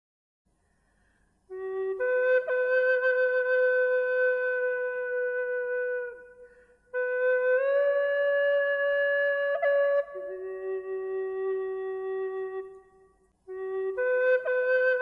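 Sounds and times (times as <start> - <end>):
flute notes: 1.5 - 15.0.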